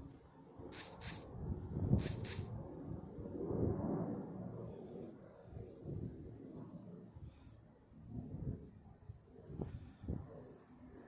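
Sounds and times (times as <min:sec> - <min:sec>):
wind gusting across microphone: 0:00.0 - 0:04.8, 0:05.4 - 0:07.3, 0:08.0 - 0:11.0.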